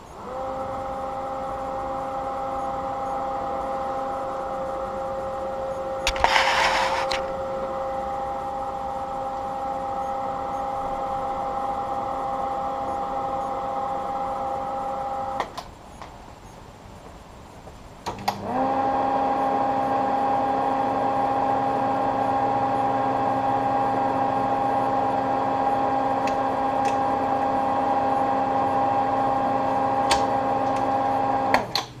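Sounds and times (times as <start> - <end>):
projector fan humming whir: 0.0 - 32.0.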